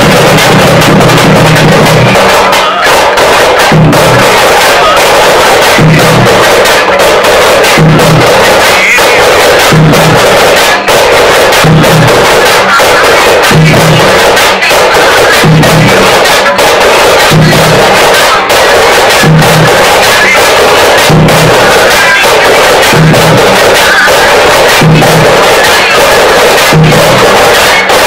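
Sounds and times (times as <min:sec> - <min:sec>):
deeper drum beat: 0:00.0 - 0:28.0
frame drums beaten with sticks: 0:00.0 - 0:28.0.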